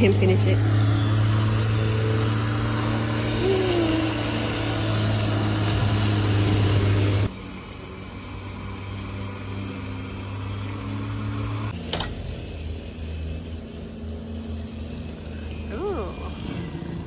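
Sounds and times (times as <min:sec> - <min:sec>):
electric lawnmower motor humming: 0:00.0 - 0:17.0.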